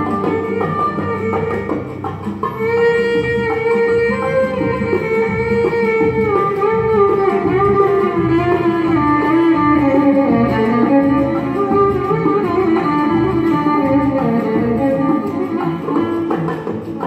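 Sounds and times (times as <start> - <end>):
plucked string instrument: 0.0 - 17.0
string orchestra playing: 0.0 - 17.0.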